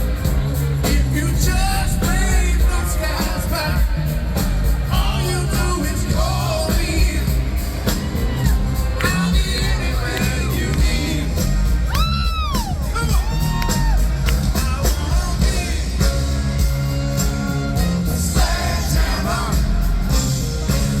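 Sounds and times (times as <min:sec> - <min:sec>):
crowd yelling and whooping: 0:00.0 - 0:21.0
rock band playing live: 0:00.0 - 0:21.0.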